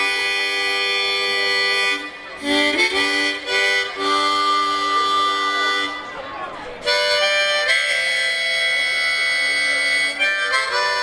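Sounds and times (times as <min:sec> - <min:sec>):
harmonica chords: 0:00.0 - 0:11.0.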